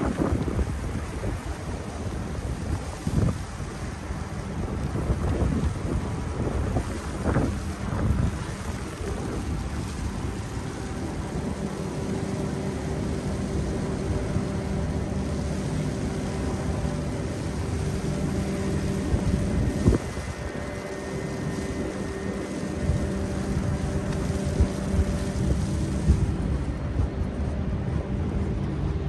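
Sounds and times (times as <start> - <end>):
traffic engines rumbling: 0.0 - 29.0.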